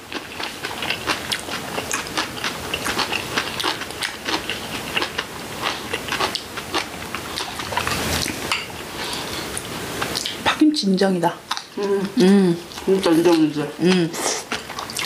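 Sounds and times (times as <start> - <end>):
people chewing crunchy food: 0.0 - 10.4, 11.5 - 15.0.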